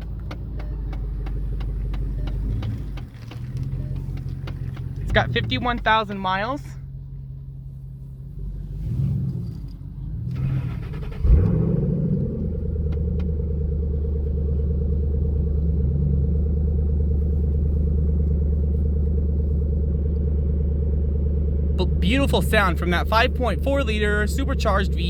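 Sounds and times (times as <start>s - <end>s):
car engine revving then idling: 0.0s - 25.0s.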